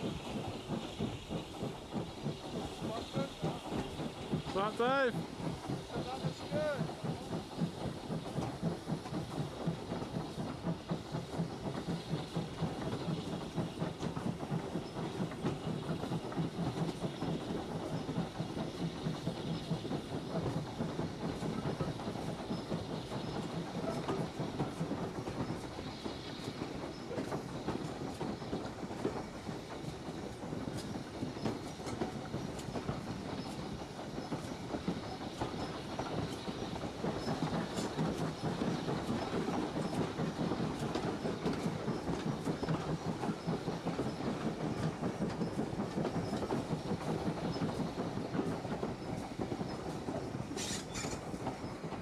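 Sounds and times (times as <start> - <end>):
train rolling rumble: 0.0 - 52.0
wheels clicking over rail joints: 5.7 - 52.0.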